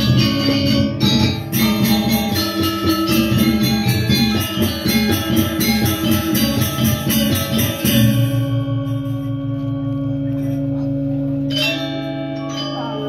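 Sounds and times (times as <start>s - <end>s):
gamelan metallophones playing: 0.0s - 13.0s
ringing gong and metallophone chord: 0.0s - 13.0s
soft high metallophone notes: 0.0s - 13.0s.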